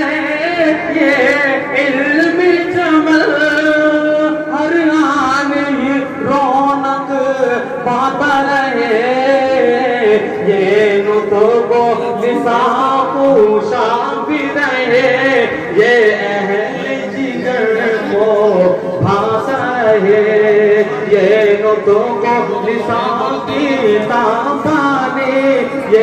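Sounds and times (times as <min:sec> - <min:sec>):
man chanting unaccompanied: 0:00.0 - 0:26.0.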